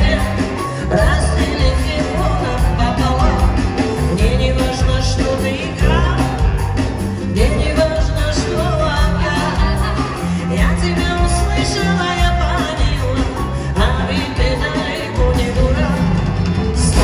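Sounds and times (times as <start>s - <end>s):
bass guitar: 0.0s - 17.0s
drums: 0.0s - 17.0s
woman singing lead: 0.0s - 17.0s.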